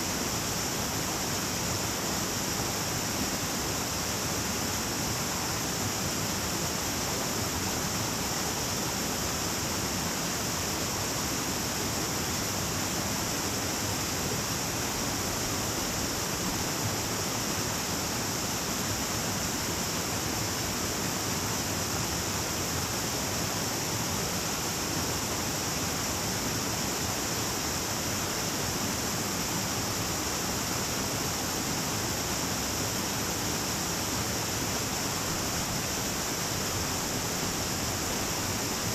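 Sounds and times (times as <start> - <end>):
constant high hiss: 0.0 - 38.9
stream rushing over rocks: 0.0 - 38.9.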